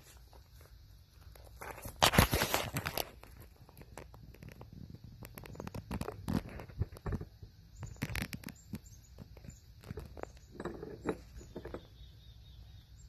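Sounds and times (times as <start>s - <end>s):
faint rustles and clicks: 0.0s - 12.0s
rough rustling and scraping: 0.0s - 12.3s.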